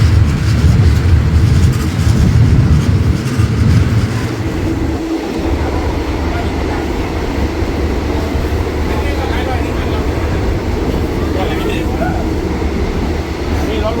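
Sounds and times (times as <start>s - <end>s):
train carriage rumbling and rattling: 0.0s - 14.0s.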